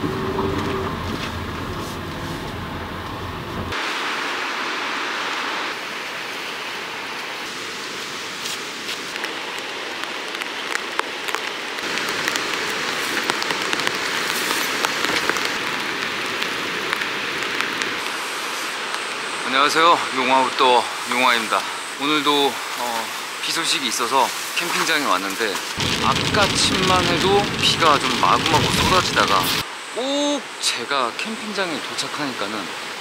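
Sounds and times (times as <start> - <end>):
rain hiss: 0.0 - 33.0.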